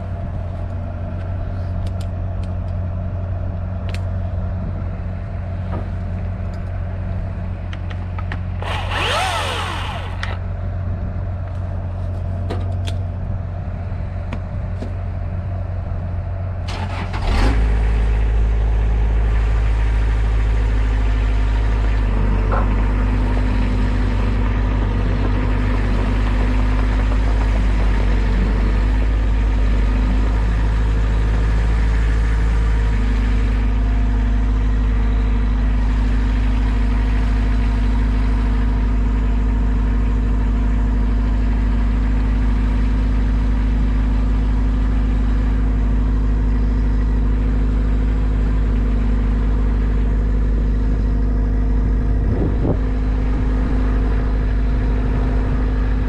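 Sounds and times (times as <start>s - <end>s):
large engine idling: 0.0s - 56.0s.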